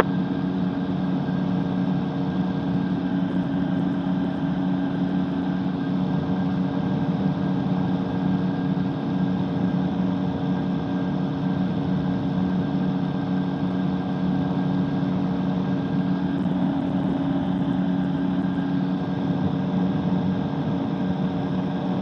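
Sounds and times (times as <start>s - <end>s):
microlight engine and propeller droning: 0.0s - 22.0s.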